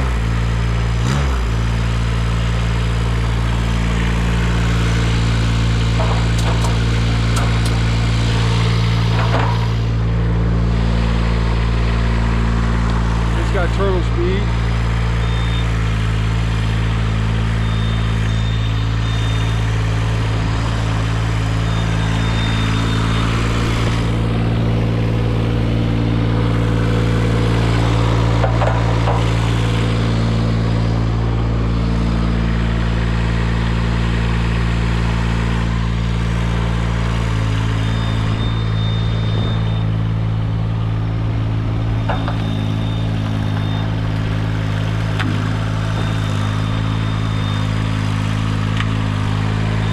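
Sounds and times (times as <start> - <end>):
aerial lift engine running: 1.8 - 49.9.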